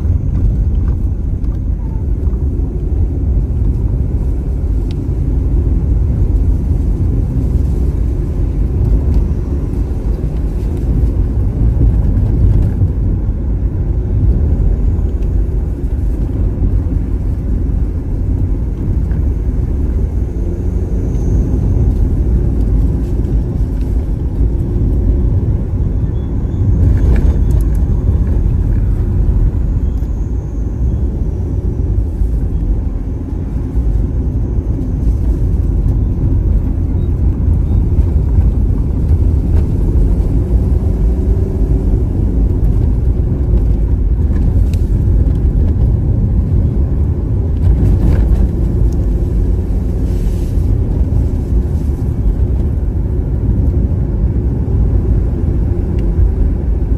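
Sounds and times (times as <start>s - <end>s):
car engine and tyre noise: 0.0s - 56.9s.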